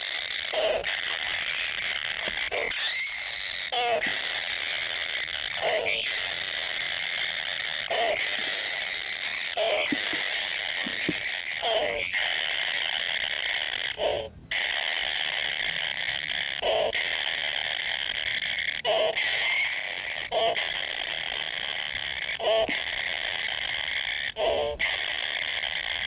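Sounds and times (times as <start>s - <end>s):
high buzzing insect chorus: 0.0s - 26.0s.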